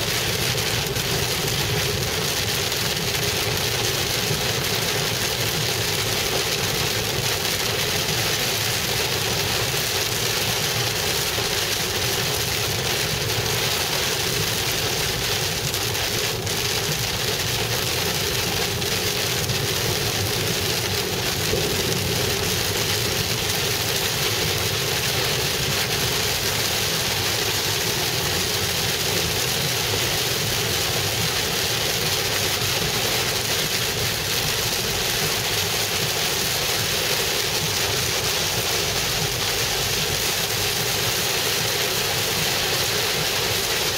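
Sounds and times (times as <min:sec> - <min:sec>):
heavy rain on car roof: 0:00.0 - 0:43.9
road noise: 0:00.0 - 0:43.9.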